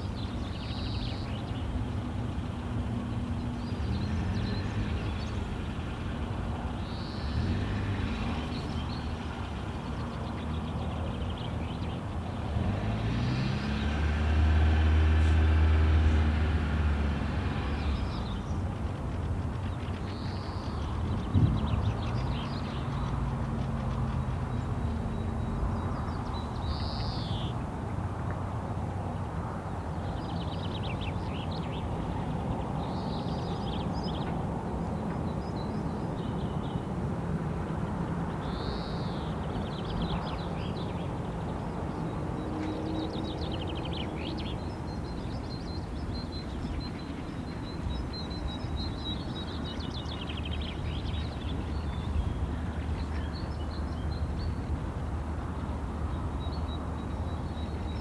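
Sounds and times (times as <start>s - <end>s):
songbirds calling and trilling: 0.0s - 58.0s.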